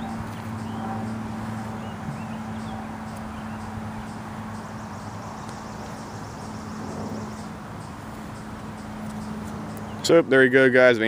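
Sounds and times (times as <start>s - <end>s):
distant motor humming: 0.0s - 11.0s.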